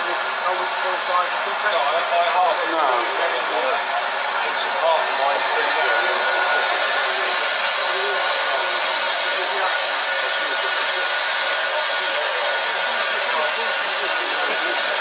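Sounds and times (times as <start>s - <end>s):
loud steam hiss: 0.0s - 15.0s.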